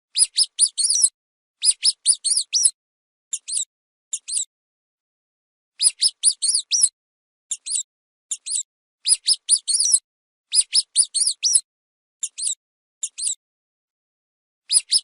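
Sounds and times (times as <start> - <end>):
mouse squeaking: 0.1 - 4.5, 5.8 - 13.4, 14.7 - 15.0.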